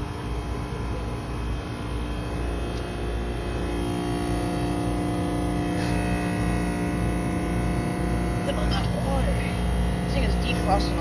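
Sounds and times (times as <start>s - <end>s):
compressor hum with low rumble: 0.0s - 11.0s.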